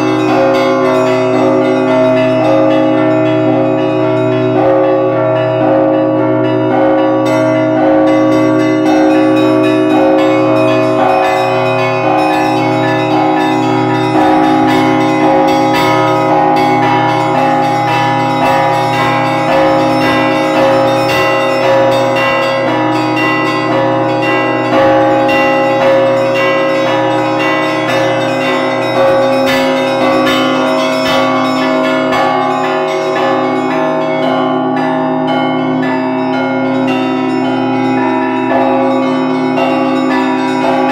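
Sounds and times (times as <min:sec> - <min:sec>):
large bells ringing: 0:00.0 - 0:40.9
small bells in quick rhythm: 0:00.0 - 0:40.9.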